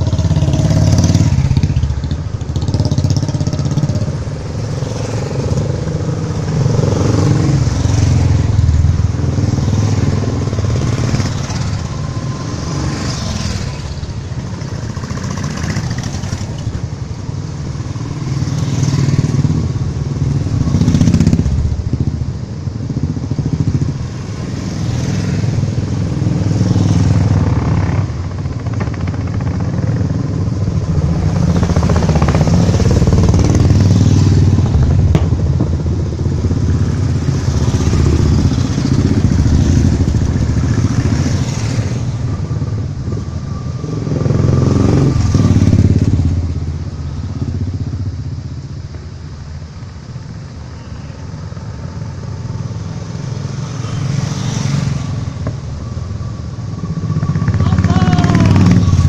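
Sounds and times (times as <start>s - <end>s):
motorcycles passing by: 0.0s - 59.0s.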